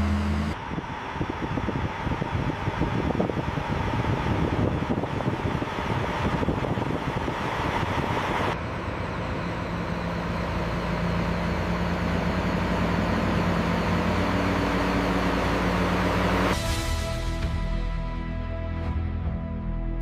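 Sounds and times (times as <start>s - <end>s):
mining truck engine running: 0.0s - 17.5s.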